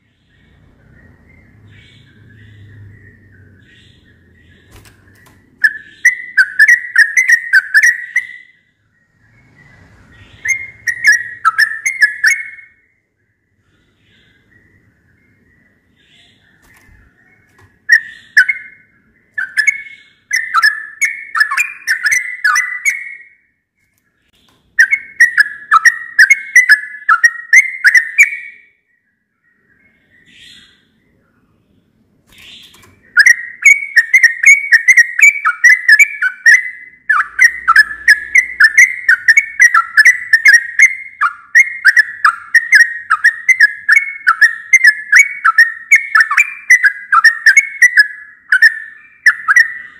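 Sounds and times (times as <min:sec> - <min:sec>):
bulbul singing: 0:00.0 - 0:49.9.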